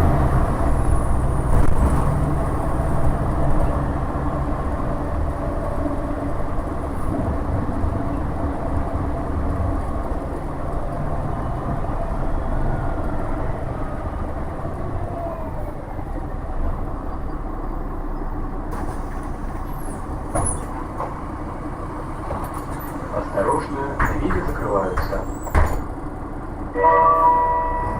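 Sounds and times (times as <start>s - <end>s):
bus engine rumble: 0.0s - 27.9s.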